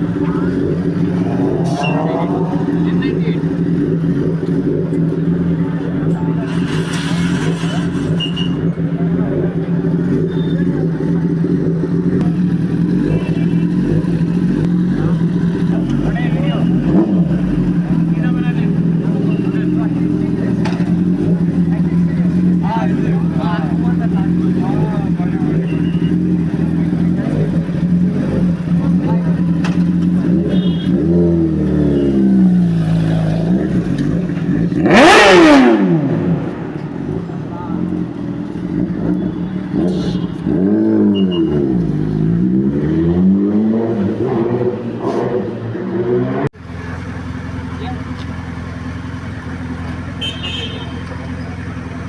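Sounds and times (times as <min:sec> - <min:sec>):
motorcycle engine running: 0:00.0 - 0:43.0, 0:46.5 - 0:52.0.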